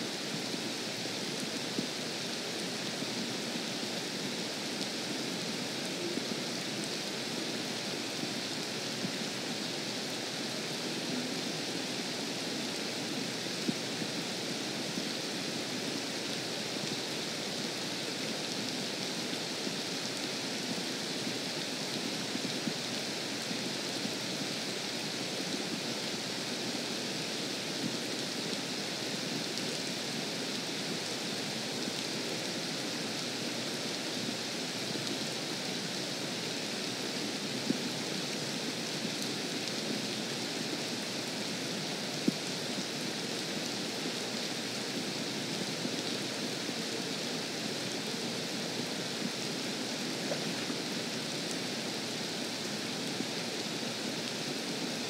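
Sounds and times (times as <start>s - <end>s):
rain falling on a lake: 0.0s - 55.0s.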